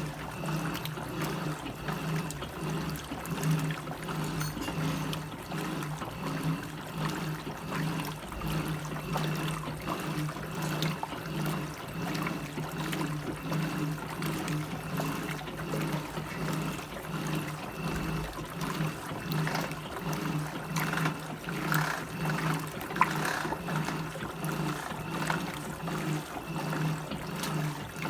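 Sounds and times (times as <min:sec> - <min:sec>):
washing machine motor hum: 0:00.0 - 0:28.0
water sloshing and trickling: 0:00.0 - 0:28.0.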